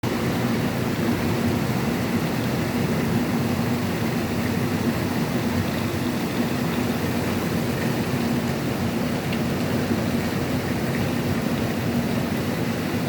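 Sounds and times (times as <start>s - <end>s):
steady rain: 0.1s - 13.0s.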